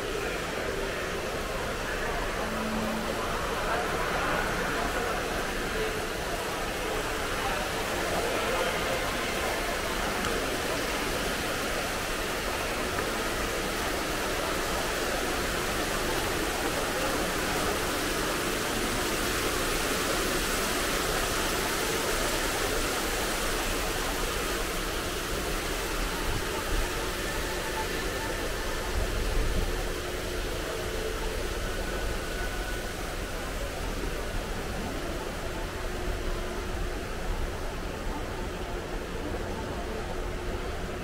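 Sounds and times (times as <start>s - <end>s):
city street hiss: 0.0s - 41.0s.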